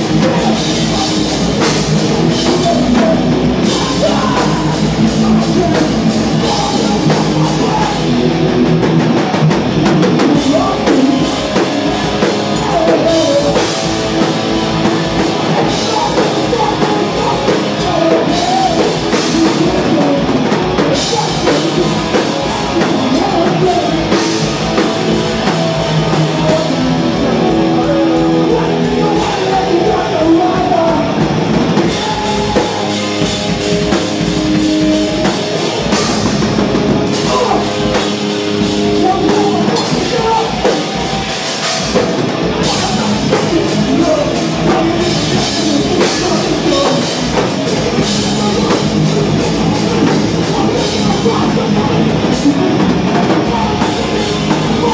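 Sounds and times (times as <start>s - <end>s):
person singing into a microphone: 0.0s - 8.4s, 10.1s - 36.4s, 37.1s - 54.9s
distorted electric guitars: 0.0s - 54.9s
drum kit playing: 0.0s - 54.9s.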